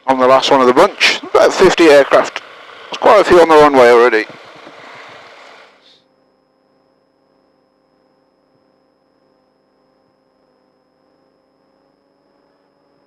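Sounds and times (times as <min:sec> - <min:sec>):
faint steady hum: 0:00.0 - 0:13.0
thin high whine: 0:00.0 - 0:13.0.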